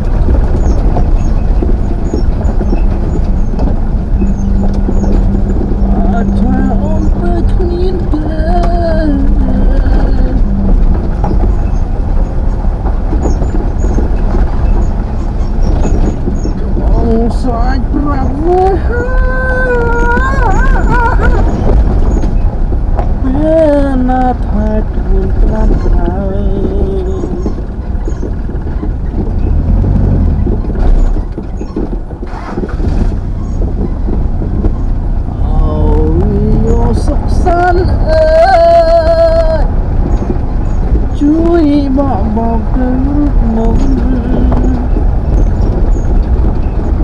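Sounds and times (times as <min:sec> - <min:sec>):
high squeaks: 0:00.0 - 0:47.0
knocks and rattles: 0:00.0 - 0:47.0
truck engine and road rumble: 0:00.0 - 0:47.0.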